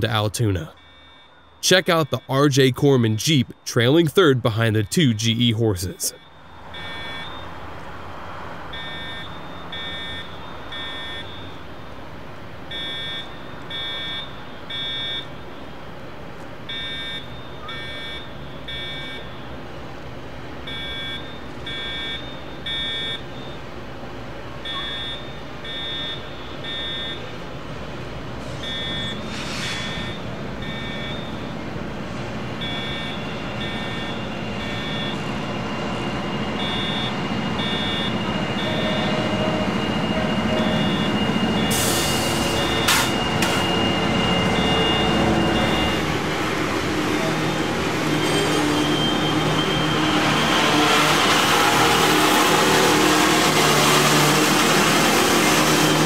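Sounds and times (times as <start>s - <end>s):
fire alarm beeps: 0.0s - 7.6s, 8.7s - 15.8s, 16.6s - 19.7s, 20.6s - 27.6s, 28.4s - 31.8s, 32.4s - 56.0s
diesel locomotives rumbling: 0.0s - 56.0s.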